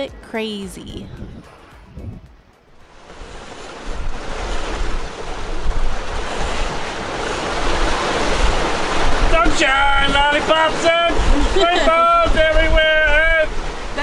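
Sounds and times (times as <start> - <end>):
wind buffeting microphone: 0.7 - 14.0
water rushing along a boat hull: 2.7 - 14.0.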